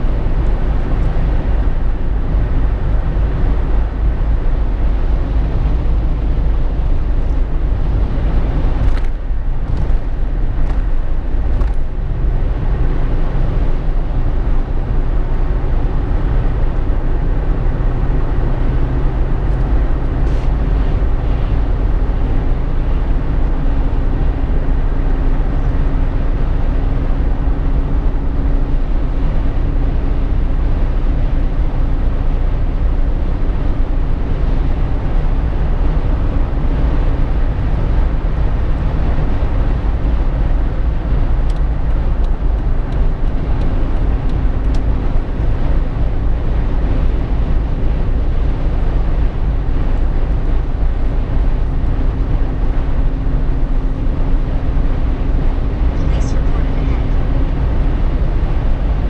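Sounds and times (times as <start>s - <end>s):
tyre and engine rumble: 0.0s - 59.0s.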